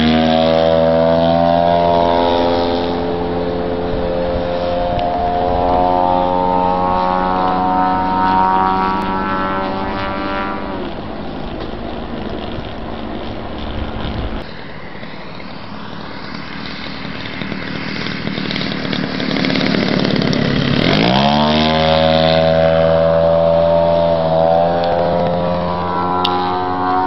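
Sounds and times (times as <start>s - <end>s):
model airplane engine and propeller: 0.0s - 27.0s.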